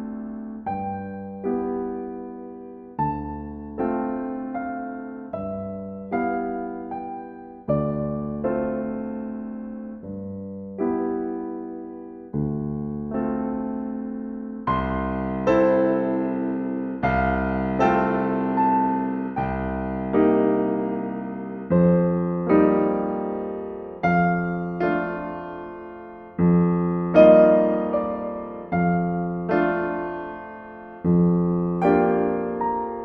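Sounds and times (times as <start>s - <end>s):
gentle solo piano: 0.0s - 33.0s.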